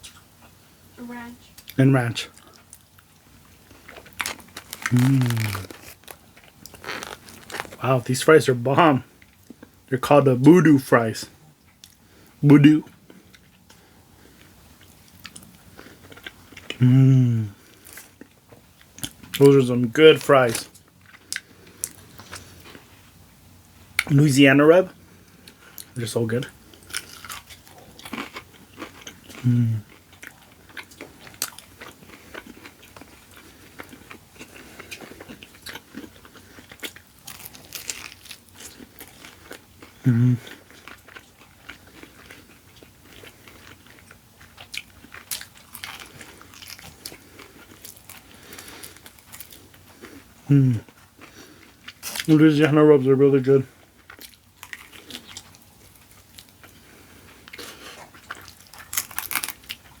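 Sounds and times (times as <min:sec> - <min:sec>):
crunchy chewing of chicken wings: 0:01.6 - 0:07.9, 0:09.0 - 0:16.9, 0:17.5 - 1:00.0.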